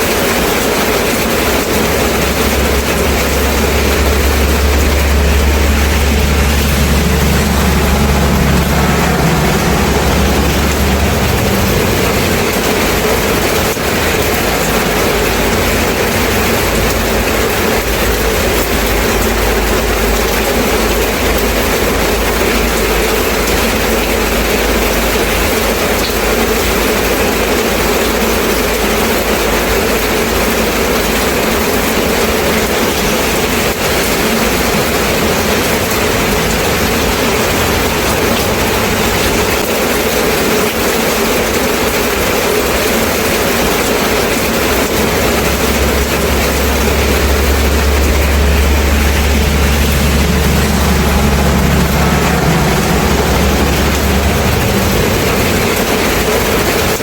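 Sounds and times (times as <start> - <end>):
steady rain hiss: 0.0 - 57.0
low rumble: 1.0 - 25.8, 32.4 - 57.0.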